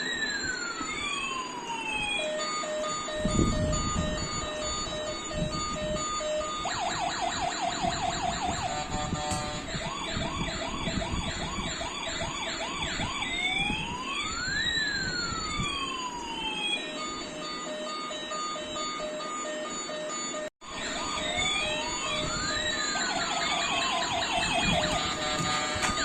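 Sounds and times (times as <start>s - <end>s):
toy siren yelping and wailing: 0.0s - 19.8s, 20.8s - 26.0s.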